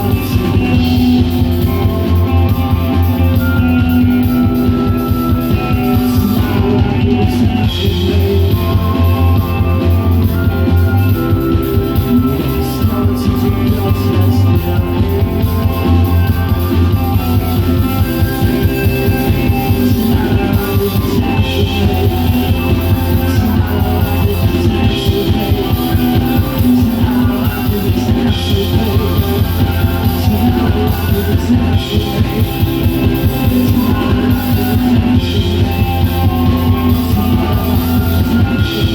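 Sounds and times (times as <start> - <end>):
live rock band: 0.0 - 38.9.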